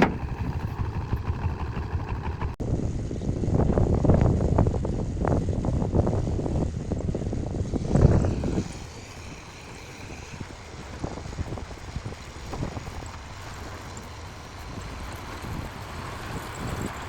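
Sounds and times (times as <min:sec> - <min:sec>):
diesel engine low rumble: 0:00.0 - 0:17.0
wind on microphone: 0:00.0 - 0:17.0.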